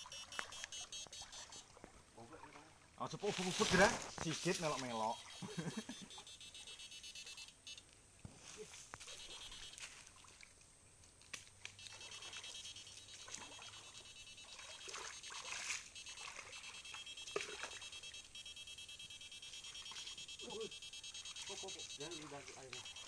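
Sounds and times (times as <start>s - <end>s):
water splashing and sloshing: 0.0s - 5.5s, 8.3s - 18.4s, 19.4s - 23.0s.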